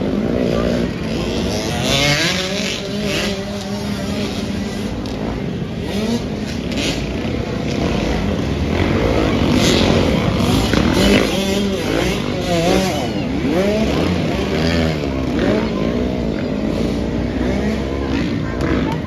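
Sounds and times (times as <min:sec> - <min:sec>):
dirt bikes revving: 0:00.0 - 0:19.0.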